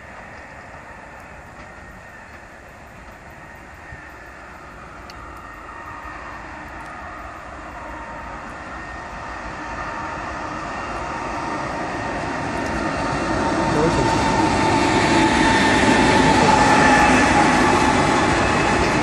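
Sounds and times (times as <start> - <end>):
passenger train approaching: 0.0 - 19.0.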